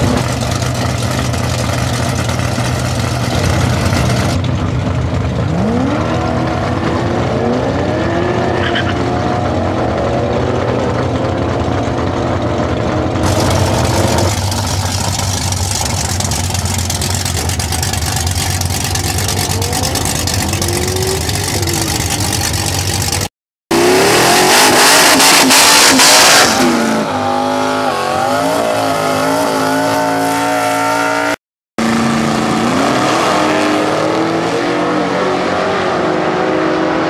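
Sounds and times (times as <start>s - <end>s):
car engine revving: 0.0s - 37.0s
drag car accelerating: 0.0s - 37.0s.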